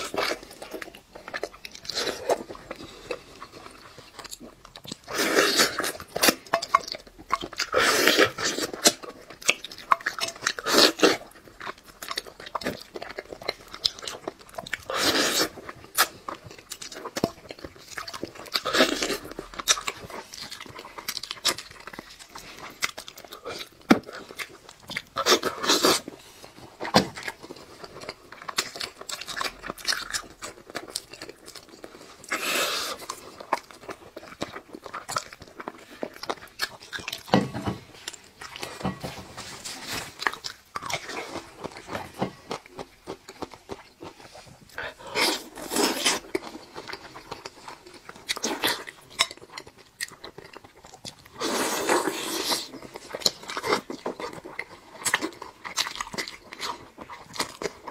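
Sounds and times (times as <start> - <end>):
person chewing crunchy food: 0.0 - 57.9.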